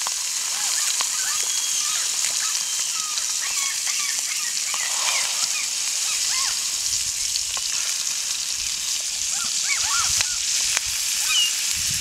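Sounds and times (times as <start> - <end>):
steady high hiss: 0.0 - 12.0
birds chirping: 0.2 - 11.6.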